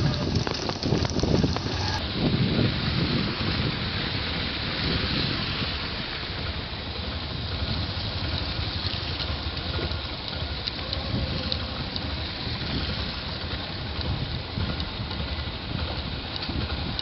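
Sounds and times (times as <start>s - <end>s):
vehicle engine and tyre noise: 0.0s - 17.0s
wind buffeting microphone: 0.0s - 17.0s.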